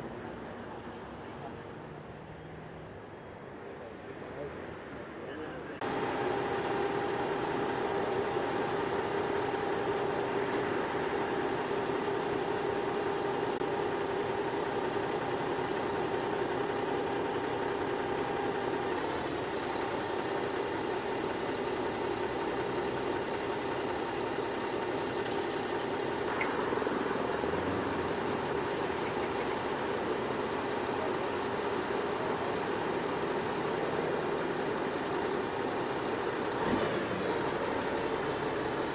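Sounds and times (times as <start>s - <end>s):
vehicle engine idling: 5.7s - 38.9s.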